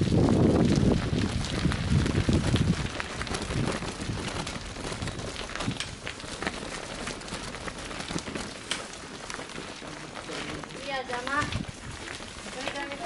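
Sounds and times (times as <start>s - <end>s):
bicycle tyres on gravel: 0.0s - 13.0s.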